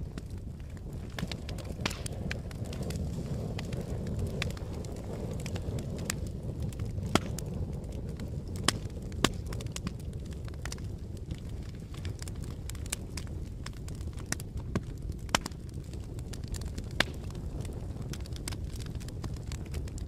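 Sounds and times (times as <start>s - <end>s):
fire popping and snapping: 0.0s - 20.0s
roar of flames: 0.0s - 20.0s.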